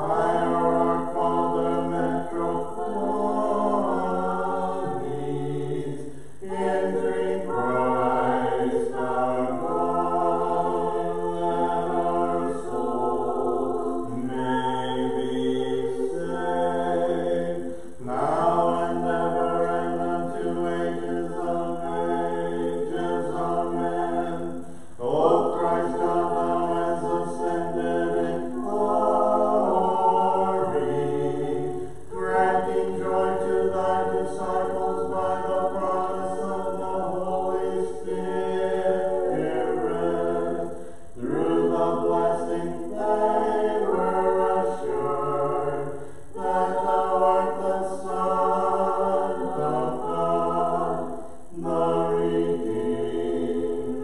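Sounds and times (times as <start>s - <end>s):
church choir chanting: 0.0s - 54.0s.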